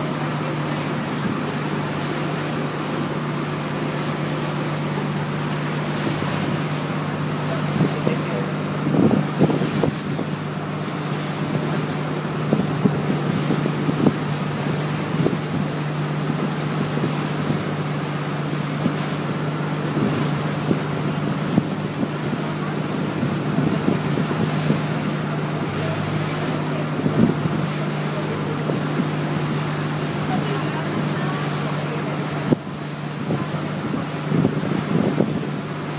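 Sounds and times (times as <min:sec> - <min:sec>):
boat engine droning: 0:00.0 - 0:35.9
water rushing past hull: 0:00.0 - 0:35.9
wind buffeting microphone: 0:04.5 - 0:35.9.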